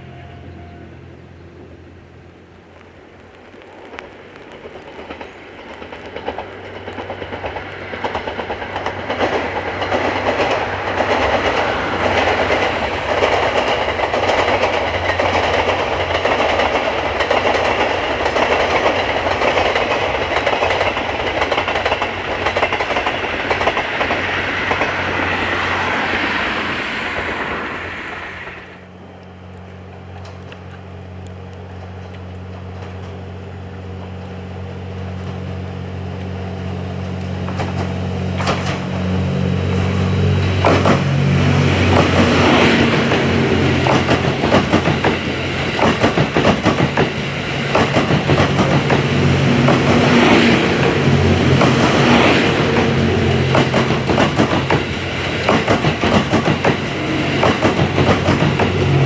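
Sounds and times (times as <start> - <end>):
diesel train passing: 0.0 - 59.0
train wheels clicking over rail joints: 3.4 - 27.5, 29.5 - 34.4, 35.1 - 39.1, 40.3 - 59.0.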